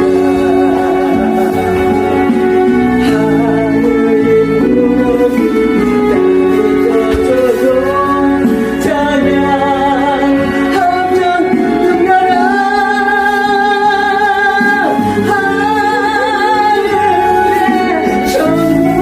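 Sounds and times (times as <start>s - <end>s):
instrumental accompaniment: 0.0s - 19.0s
person singing gospel song: 0.0s - 19.0s.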